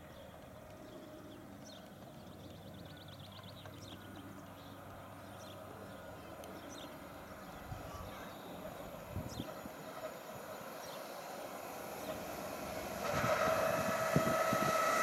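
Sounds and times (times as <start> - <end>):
birds chirping: 0.0 - 12.3
train rumble: 0.0 - 15.0.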